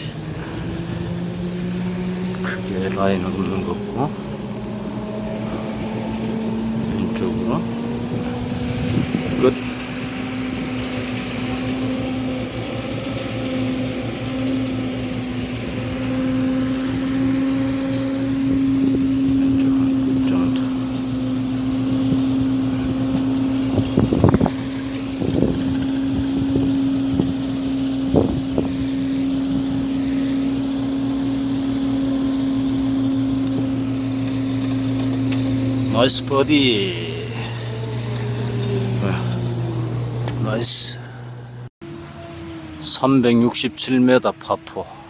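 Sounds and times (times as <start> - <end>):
motor humming: 0.0 - 42.8.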